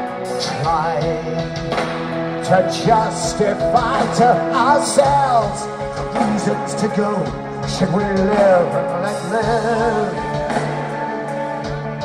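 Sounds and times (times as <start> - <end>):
live heavy metal band: 0.0 - 12.0.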